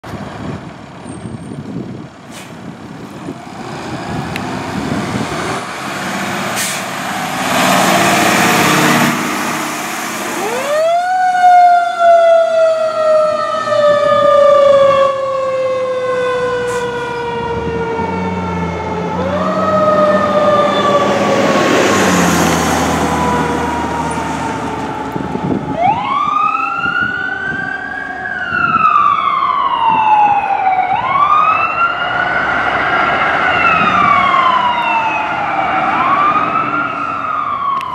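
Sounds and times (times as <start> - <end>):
fire engine siren: 1.6 - 37.9
ambulance siren: 7.0 - 37.9.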